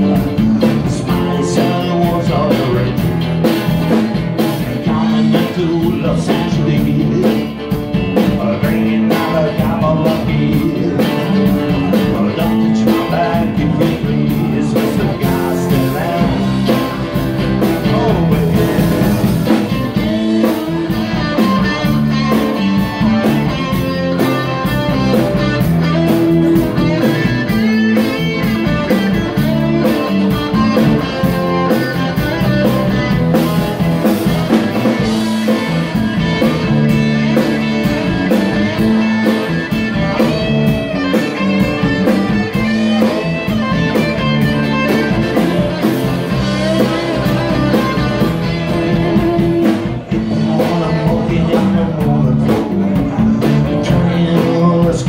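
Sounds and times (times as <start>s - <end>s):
drum kit steady beat: 0.0s - 55.0s
electric guitar: 0.0s - 55.0s.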